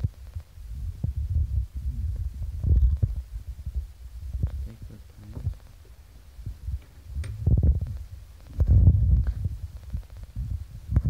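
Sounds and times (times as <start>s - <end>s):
microphone handling rumble: 0.0s - 11.0s.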